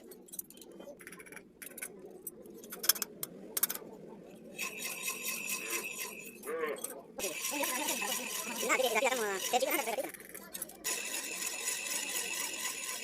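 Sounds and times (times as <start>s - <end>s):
steady high whine: 1.8s - 13.0s.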